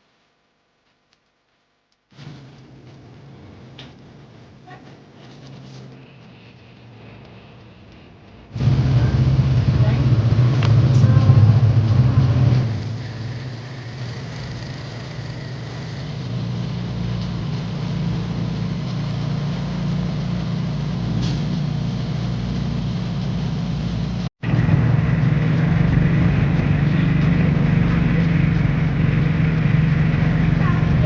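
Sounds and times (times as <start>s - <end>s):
road noise: 2.2s - 31.0s
vehicle engine rumble: 2.2s - 31.0s.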